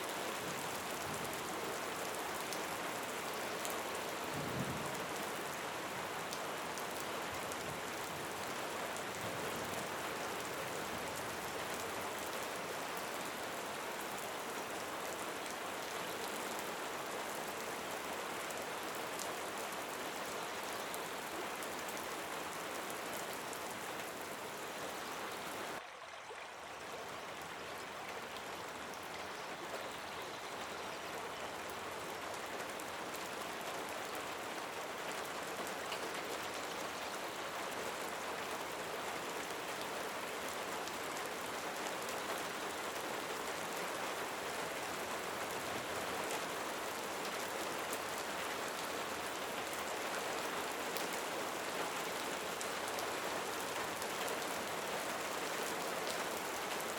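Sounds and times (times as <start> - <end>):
steady rain falling: 0.0 - 25.8, 26.4 - 56.9.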